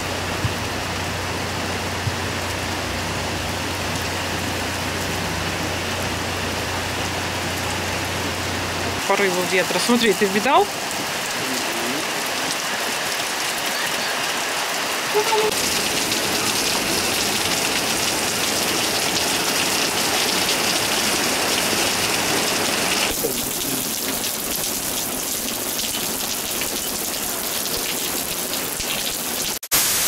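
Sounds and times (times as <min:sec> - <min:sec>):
rain falling on pavement: 0:00.0 - 0:30.0.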